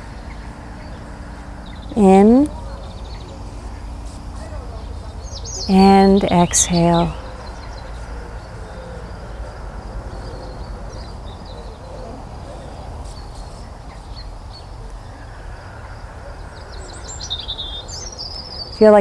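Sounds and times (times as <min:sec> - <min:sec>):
bird chirps: 0:00.0 - 0:19.0
bird twittering: 0:00.0 - 0:19.0
steady low rumble: 0:00.0 - 0:19.0.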